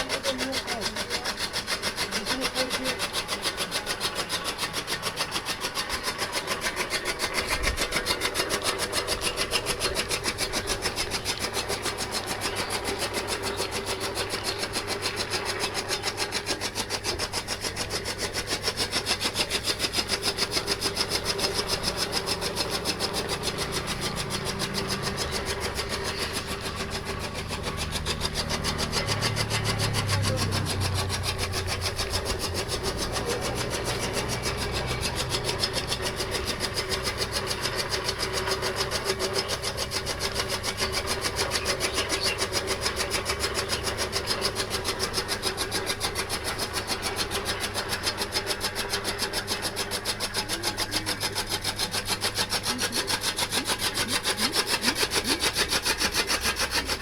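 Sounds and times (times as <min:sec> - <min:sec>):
deep motor hum: 0:00.0 - 0:57.0
grass-cutting machine rasping: 0:00.0 - 0:57.0.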